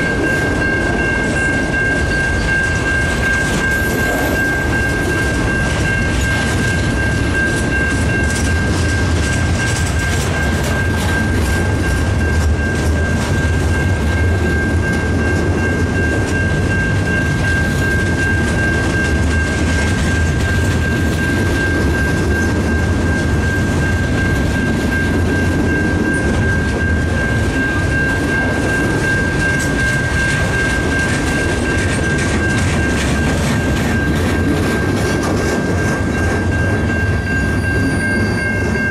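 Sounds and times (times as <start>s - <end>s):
continuous high-pitched tone: 0.0s - 38.9s
train wheels rumbling on rail: 0.0s - 38.9s.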